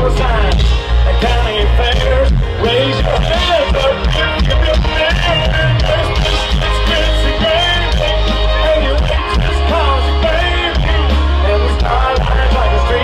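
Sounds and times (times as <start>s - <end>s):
live country band playing: 0.0s - 13.0s
person singing: 0.0s - 13.0s.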